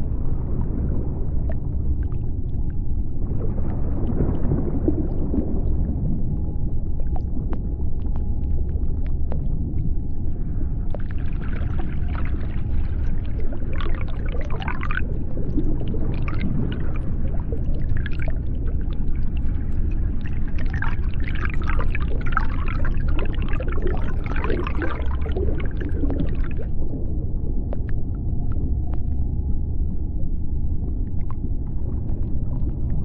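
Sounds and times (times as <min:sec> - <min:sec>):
deep underwater rumble: 0:00.0 - 0:33.0.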